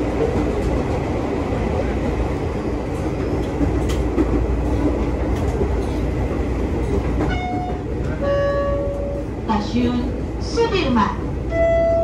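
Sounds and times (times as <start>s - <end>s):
electric train rumbling: 0.0s - 12.0s
rail clicks: 0.0s - 12.0s.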